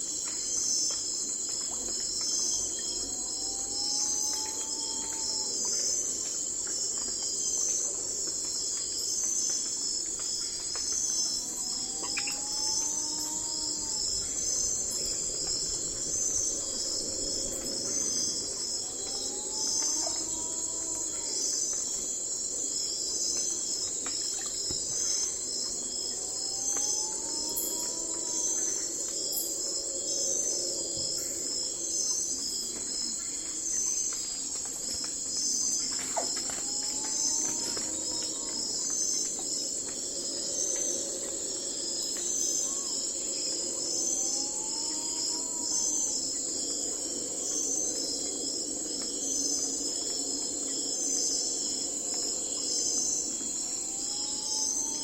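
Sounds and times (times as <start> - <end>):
crickets and insects chirping: 0.0 - 55.0.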